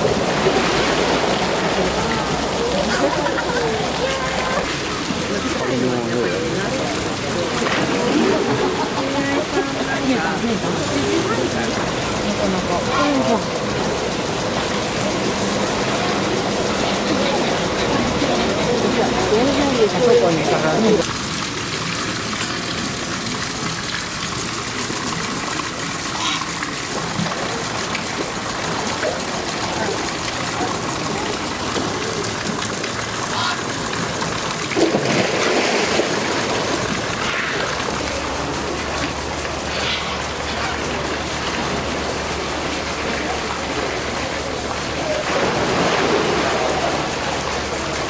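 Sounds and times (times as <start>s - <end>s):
faint voices: 0.0s - 21.2s, 22.2s - 48.0s
running water rushing: 0.0s - 48.0s.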